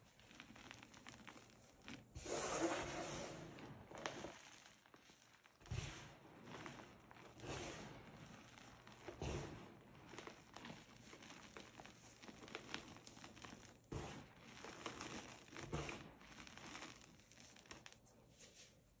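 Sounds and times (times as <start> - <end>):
chalk crumbling and crunching: 0.0 - 18.8.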